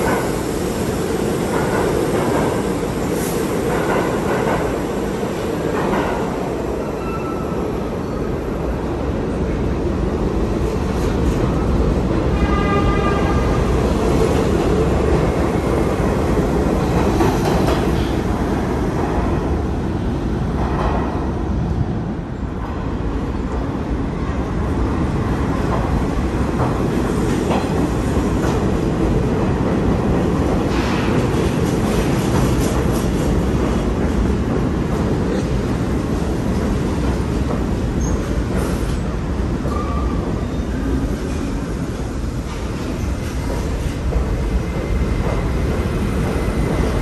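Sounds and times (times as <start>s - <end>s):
subway train rumble and wheel clatter: 0.0s - 47.0s.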